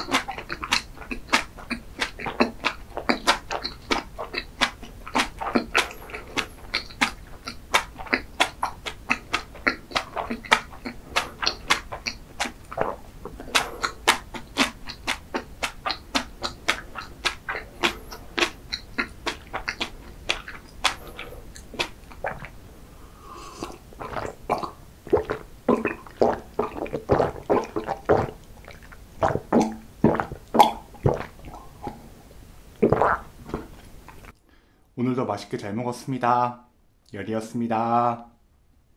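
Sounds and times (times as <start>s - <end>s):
chewing with mouth smacks: 0.0s - 22.7s, 23.4s - 32.2s, 32.8s - 34.4s
swallowing gulps: 0.0s - 34.4s.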